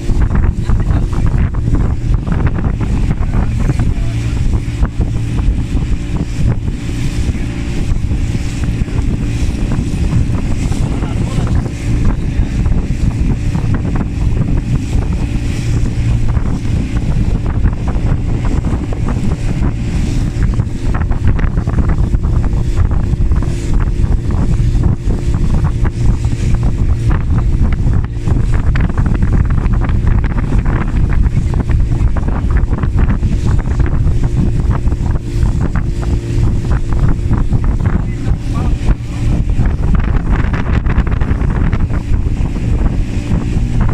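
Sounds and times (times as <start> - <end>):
motorboat engine humming: 0.0 - 43.9
spray slapping against hull: 0.0 - 43.9
wind buffeting microphone: 0.0 - 43.9.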